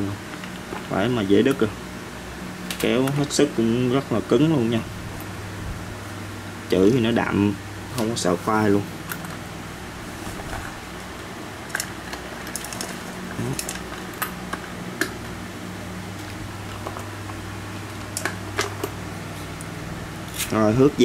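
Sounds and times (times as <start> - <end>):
fan hum: 0.0 - 21.0.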